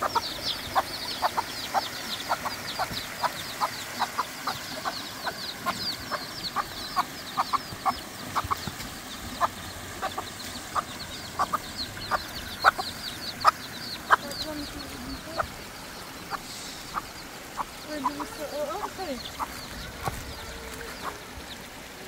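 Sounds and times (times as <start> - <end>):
chicks peeping: 0.0 - 21.8
hen clucking: 0.0 - 21.8.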